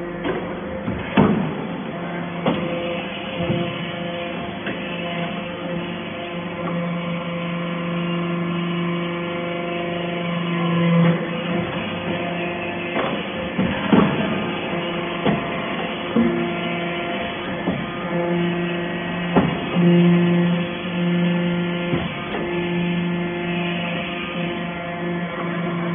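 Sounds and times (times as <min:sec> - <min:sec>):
hydraulic pump hum: 0:00.0 - 0:25.9.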